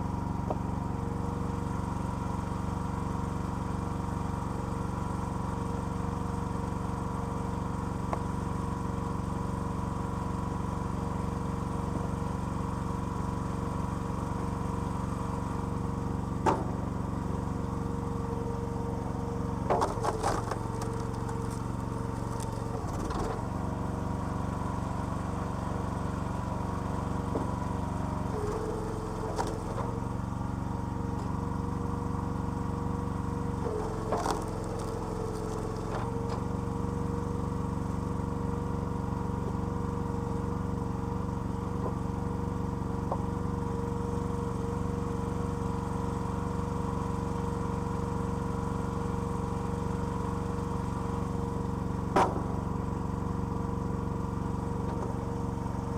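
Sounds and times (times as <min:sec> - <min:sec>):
small petrol engine running: 0:00.0 - 0:55.9.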